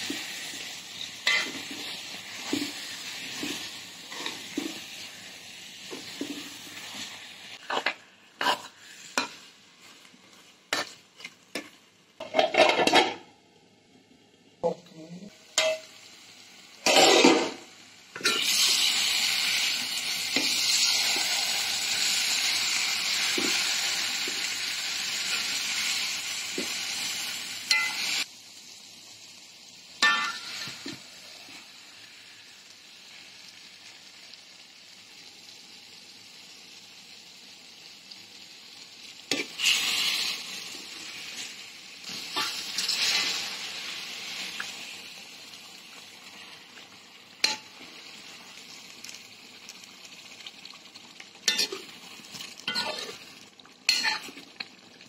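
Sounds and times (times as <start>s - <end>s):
curry sizzling in a metal pan: 0.0s - 13.5s, 14.6s - 55.0s.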